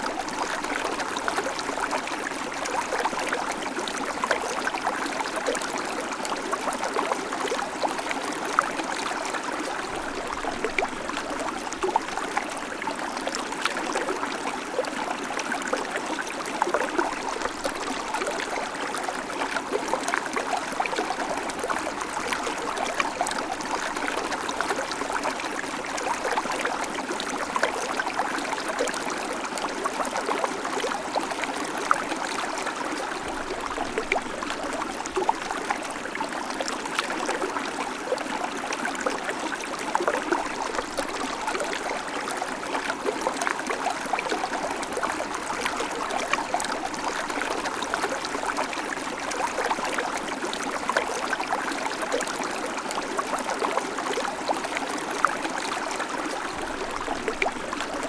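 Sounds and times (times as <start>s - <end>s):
creek babbling over stones: 0.0s - 58.0s.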